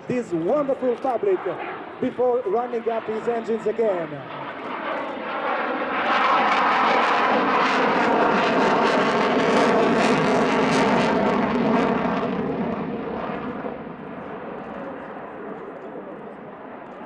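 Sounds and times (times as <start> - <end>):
jet engines passing overhead: 0.0 - 17.0.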